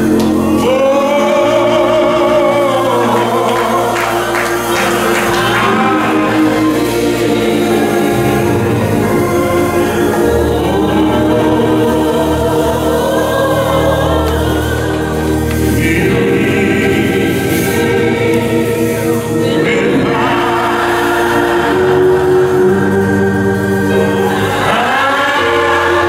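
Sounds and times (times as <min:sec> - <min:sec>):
gospel choir singing: 0:00.0 - 0:26.0.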